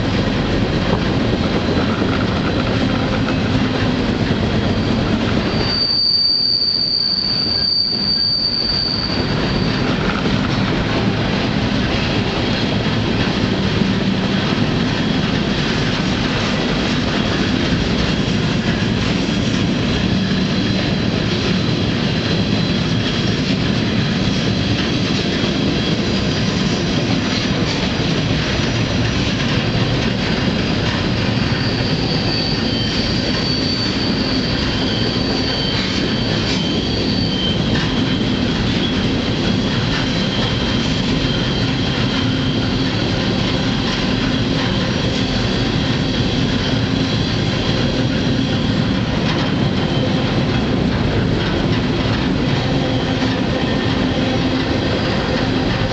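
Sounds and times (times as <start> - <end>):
freight train wheels rumbling: 0.0 - 55.9
high steel wheel squeal: 1.6 - 10.6, 17.2 - 26.8, 29.7 - 55.9.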